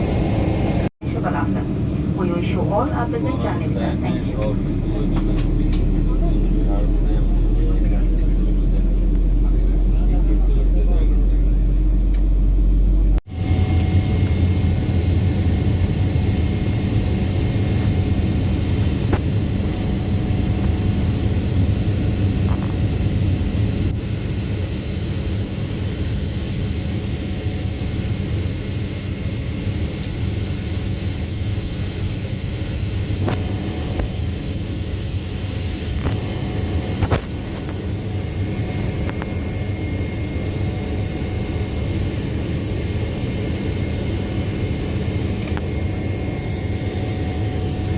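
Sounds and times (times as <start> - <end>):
faint steady whine: 0.0 - 47.9
jet engine and airflow drone: 0.0 - 47.9.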